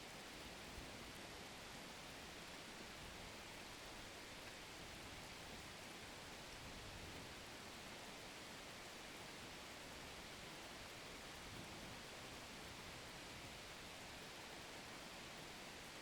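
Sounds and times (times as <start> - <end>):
faint rain hiss: 0.0 - 16.0.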